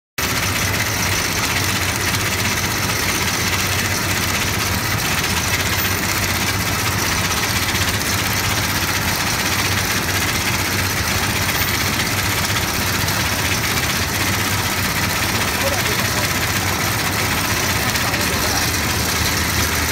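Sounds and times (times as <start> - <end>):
industrial sewing machine running: 0.2 - 19.9.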